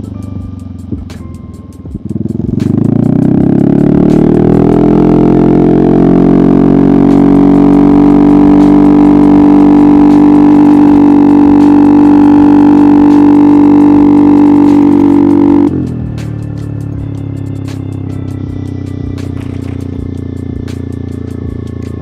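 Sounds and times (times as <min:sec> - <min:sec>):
scooter engine at high revs: 0:01.9 - 0:16.2, 0:17.6 - 0:22.0.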